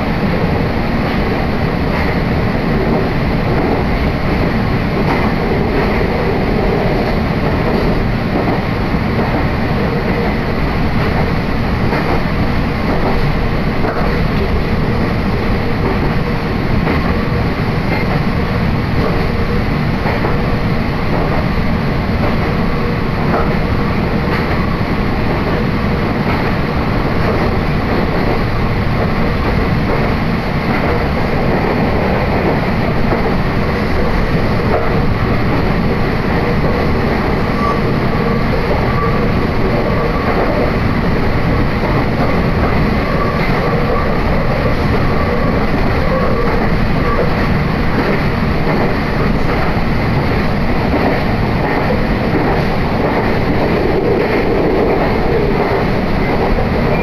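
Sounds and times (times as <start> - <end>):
electric train running noise: 0.0 - 57.0.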